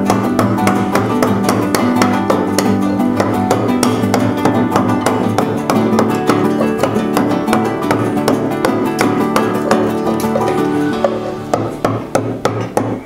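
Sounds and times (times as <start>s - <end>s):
acoustic guitar plucked notes: 0.0s - 13.0s.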